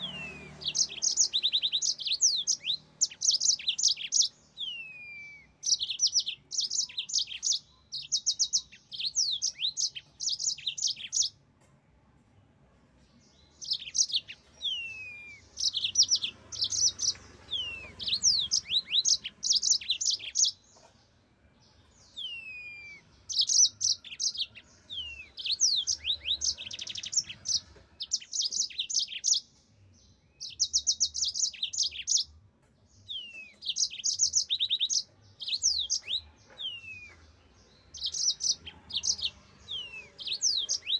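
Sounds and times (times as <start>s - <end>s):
canary singing: 0.0s - 11.4s, 13.2s - 40.9s.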